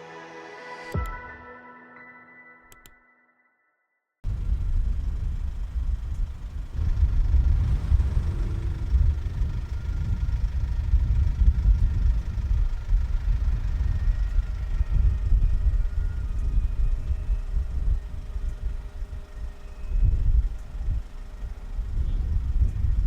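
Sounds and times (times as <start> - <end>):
fire engines rumbling: 4.2 - 23.0.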